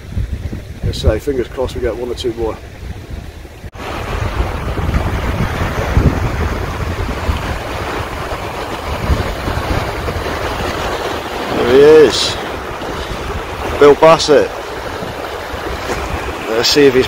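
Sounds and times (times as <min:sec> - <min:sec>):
sea waves on rocky shore: 0:00.0 - 0:17.0
wind buffeting microphone: 0:00.0 - 0:17.0.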